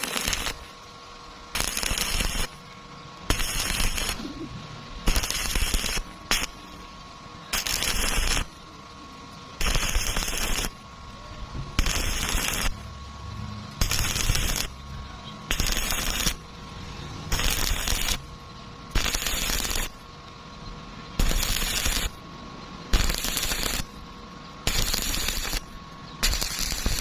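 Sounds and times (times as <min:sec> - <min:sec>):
welding arc crackling: 0:00.0 - 0:20.1, 0:21.2 - 0:22.2, 0:22.9 - 0:27.0.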